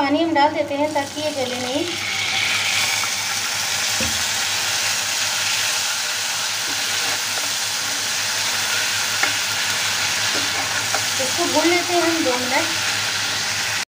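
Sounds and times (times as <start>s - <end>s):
spices sizzling in hot oil: 0.4s - 13.8s.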